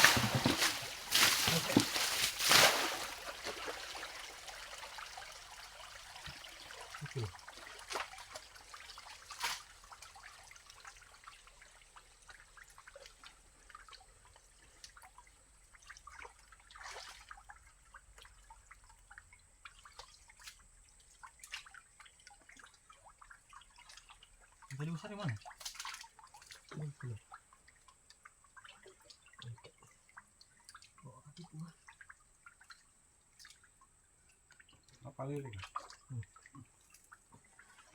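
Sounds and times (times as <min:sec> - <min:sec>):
small water splashes: 0:00.0 - 0:37.9
water trickling and dripping: 0:00.0 - 0:37.9.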